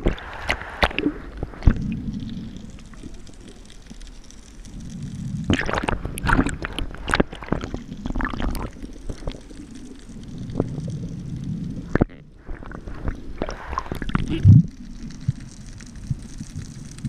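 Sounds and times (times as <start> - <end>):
water gurgling and sloshing: 0.0 - 17.0.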